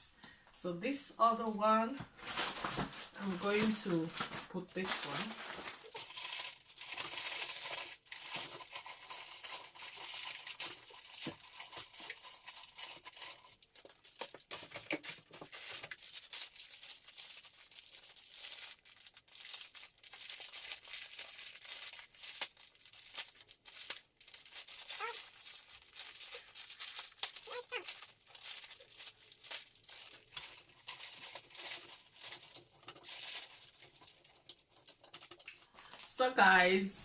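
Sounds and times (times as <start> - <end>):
cereal pouring from plastic bag: 3.6 - 14.4, 15.2 - 36.0.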